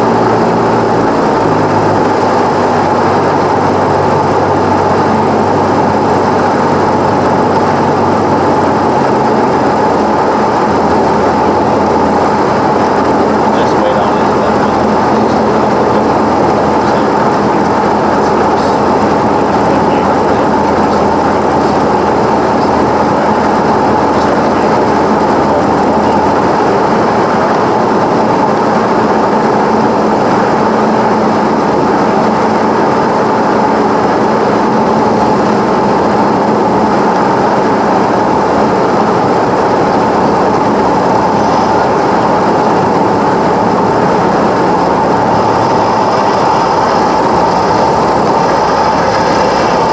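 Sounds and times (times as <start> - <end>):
airplane engine drone in cabin: 0.0 - 49.9.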